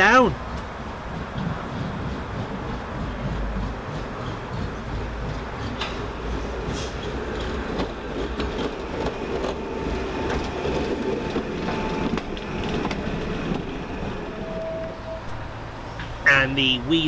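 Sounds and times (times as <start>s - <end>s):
wheels clicking on rails: 0.0s - 15.0s
railcar rumbling past: 0.0s - 17.0s.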